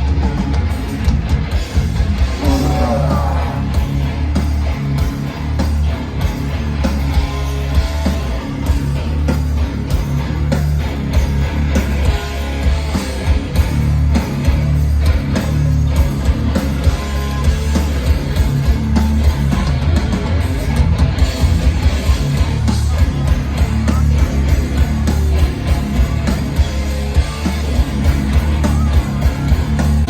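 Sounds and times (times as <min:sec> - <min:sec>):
bass guitar: 0:00.0 - 0:30.0
fast dense drumming: 0:00.0 - 0:30.0
heavy distorted electric guitars: 0:00.0 - 0:30.0.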